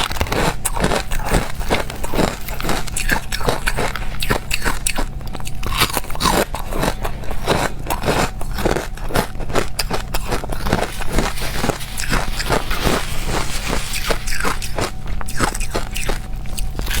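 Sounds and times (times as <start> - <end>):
crushed ice being chewed: 0.0 - 17.0.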